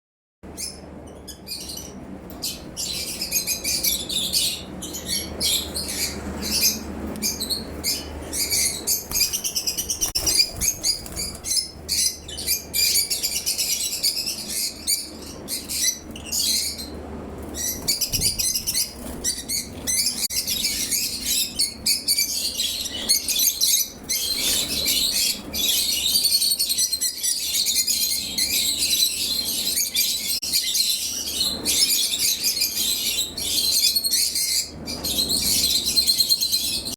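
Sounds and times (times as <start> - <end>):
lovebirds chirping: 0.5 - 36.9.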